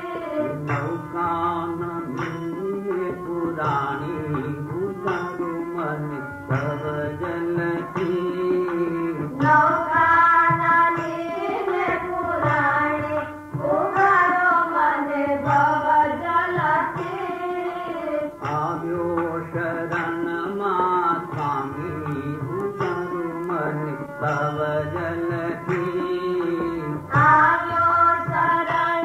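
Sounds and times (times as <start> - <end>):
drum accompaniment: 0.1 - 14.6, 15.5 - 29.0.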